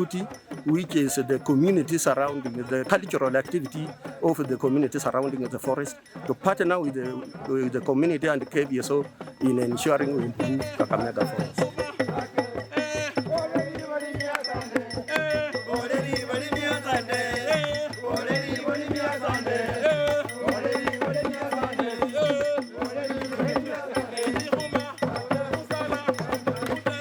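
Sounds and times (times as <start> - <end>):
drums beaten in fast rhythm: 0.0 - 27.0
voices singing: 0.0 - 27.0.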